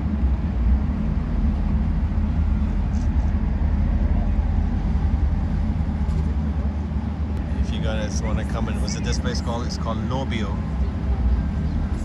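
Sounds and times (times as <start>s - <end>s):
ferry engine rumble: 0.0s - 12.0s.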